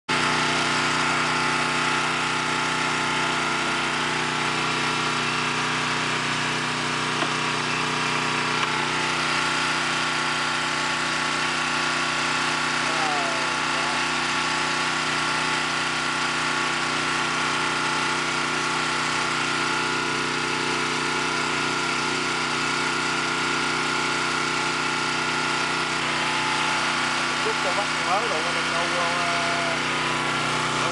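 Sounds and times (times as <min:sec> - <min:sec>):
engine idling: 0:00.1 - 0:30.9.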